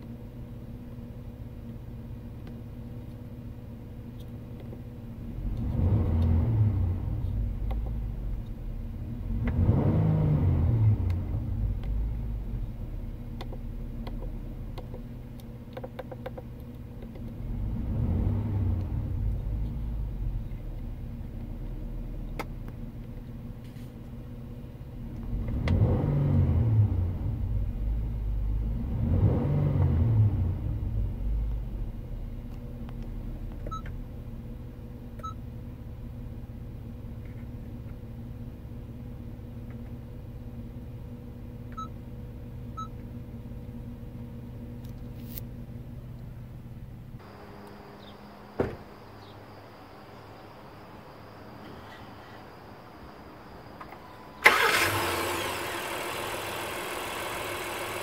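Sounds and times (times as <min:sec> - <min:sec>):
car engine idling and revving: 0:00.0 - 0:48.2, 0:53.0 - 0:58.0.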